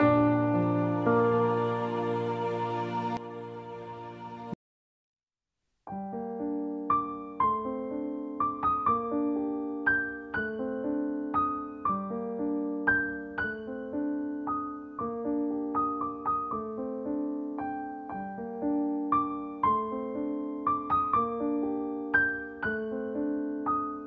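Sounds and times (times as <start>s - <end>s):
soft piano melody: 0.0s - 4.6s, 5.9s - 24.0s.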